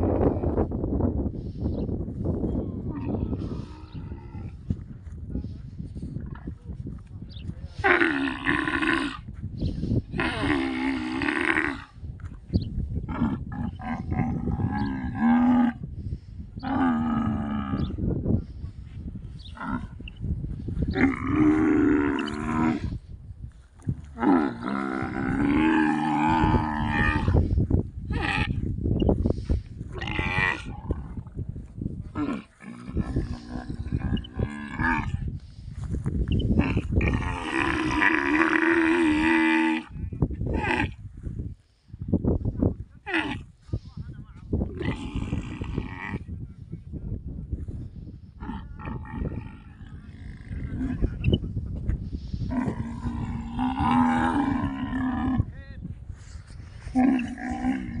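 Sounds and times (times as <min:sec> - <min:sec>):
camels groaning and bellowing: 0:02.4 - 0:06.5, 0:07.6 - 0:41.1, 0:43.0 - 0:43.9, 0:44.6 - 0:46.4, 0:47.6 - 0:58.0.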